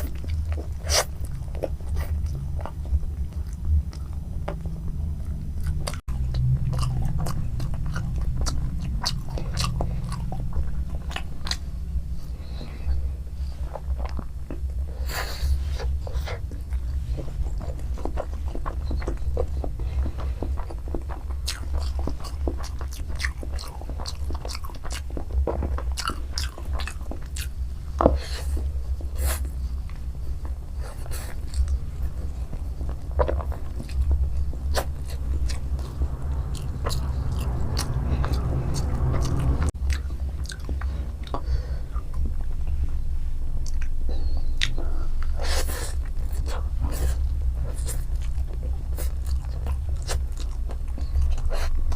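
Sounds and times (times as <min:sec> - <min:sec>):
chewing noodles: 0:00.0 - 0:42.7, 0:43.6 - 0:51.9
low hum: 0:00.0 - 0:51.9.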